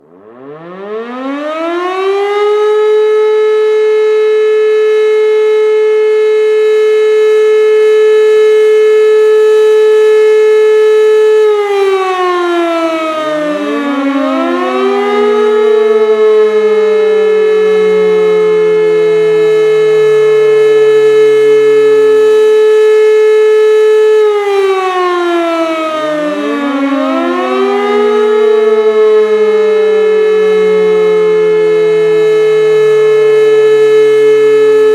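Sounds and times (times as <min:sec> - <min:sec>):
air raid siren: 0:00.0 - 0:34.9.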